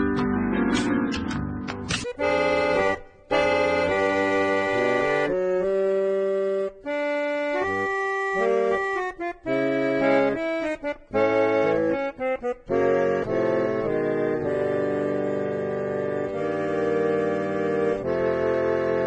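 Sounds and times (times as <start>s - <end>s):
instrumental music of held chords: 0.0s - 19.0s.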